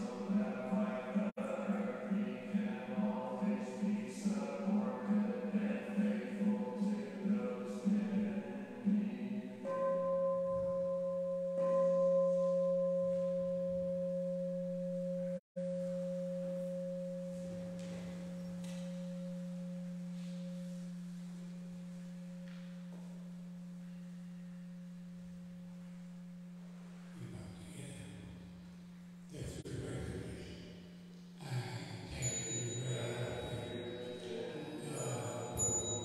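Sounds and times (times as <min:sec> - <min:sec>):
bowl bell ringing: 0:00.0 - 0:27.2, 0:32.1 - 0:36.0.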